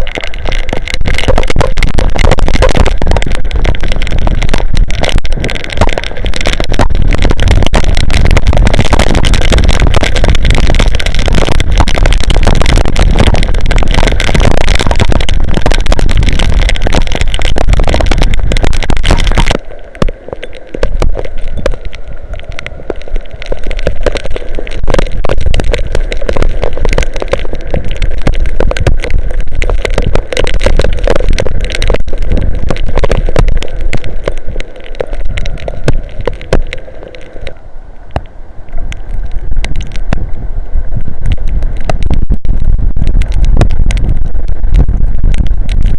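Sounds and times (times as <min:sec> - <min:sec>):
heavy rain and wind roar: 0:00.0 - 0:45.9
sharp ticks on microphone: 0:00.0 - 0:45.9.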